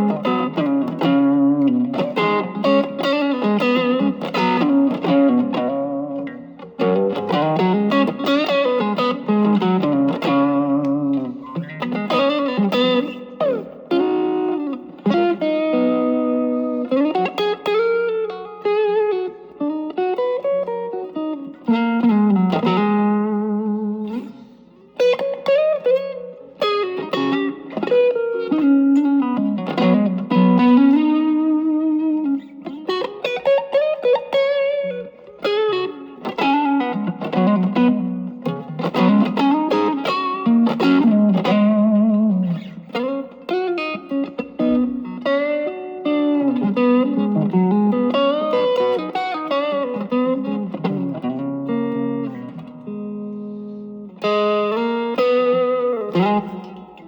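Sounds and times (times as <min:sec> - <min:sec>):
electric guitar melodic lines: 0:00.0 - 0:57.0.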